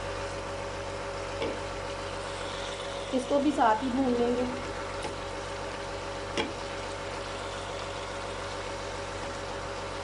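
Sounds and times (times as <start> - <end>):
food sizzling in oil: 0.1 - 10.0.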